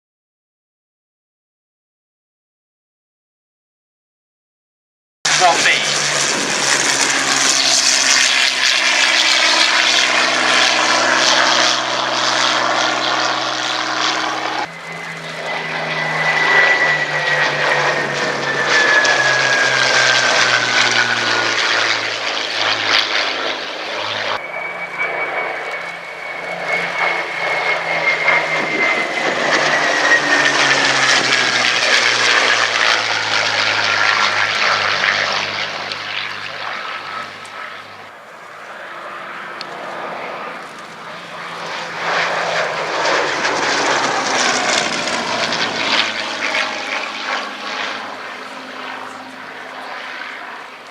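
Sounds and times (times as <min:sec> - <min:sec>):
propeller plane flying past: 0:05.3 - 0:50.9.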